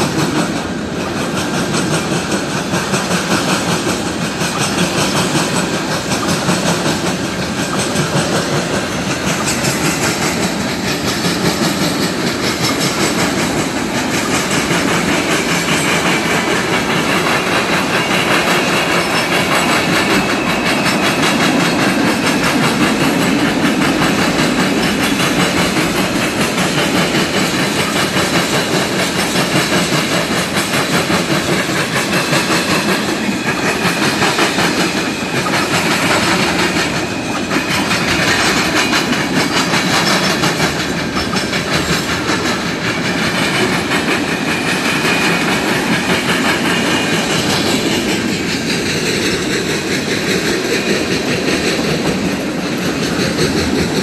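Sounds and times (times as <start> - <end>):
rumble of wheels on rail: 0.0 - 54.0
wheels clacking over rail joints: 0.0 - 54.0.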